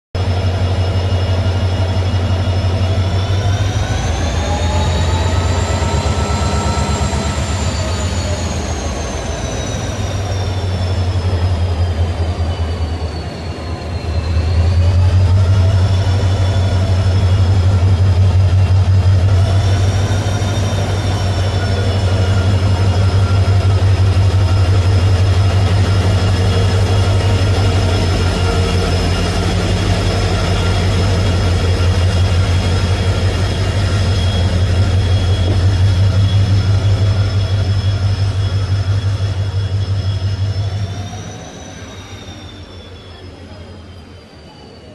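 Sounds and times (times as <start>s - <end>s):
diesel locomotive engine running: 0.2s - 44.9s.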